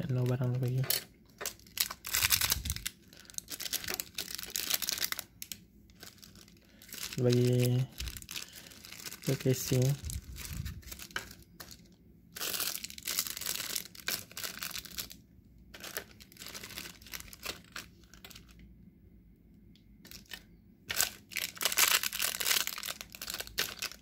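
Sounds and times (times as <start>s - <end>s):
plastic bags crinkling: 0.0s - 18.6s, 20.0s - 24.0s.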